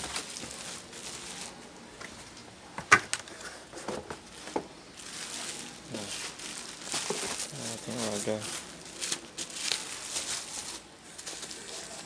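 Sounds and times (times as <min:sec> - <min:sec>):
bubble wrap rustling: 0:00.0 - 0:02.4, 0:03.1 - 0:12.0.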